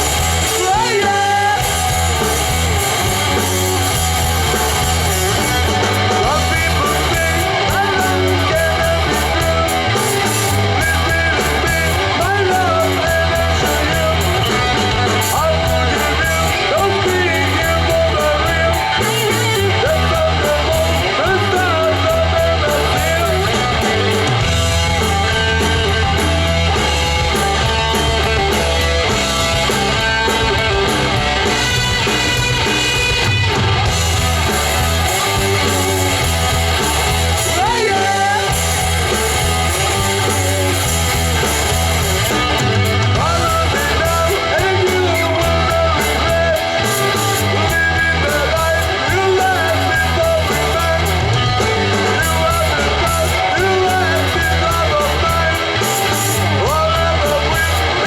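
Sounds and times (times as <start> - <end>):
person singing: 0.0 - 3.8, 4.4 - 28.6, 34.5 - 41.0, 42.1 - 58.0
bass guitar: 0.0 - 58.0
distorted electric guitar: 0.0 - 58.0
drums: 0.0 - 58.0.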